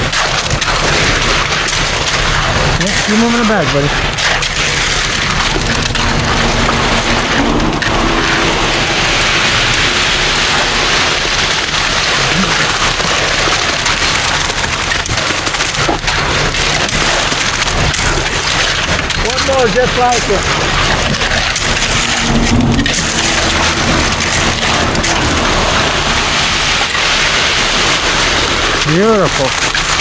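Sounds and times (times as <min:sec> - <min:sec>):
engine running low: 0:00.0 - 0:30.0
wet concrete pouring: 0:00.0 - 0:30.0.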